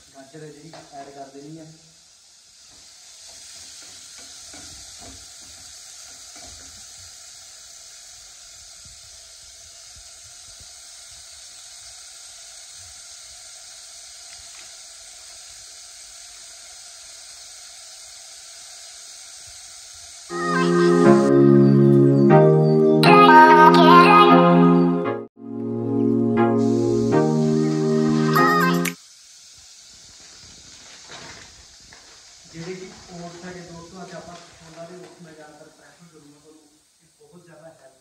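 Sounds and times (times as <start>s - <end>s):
vegetables sizzling in ghee: 0.0s - 24.2s, 26.5s - 38.0s.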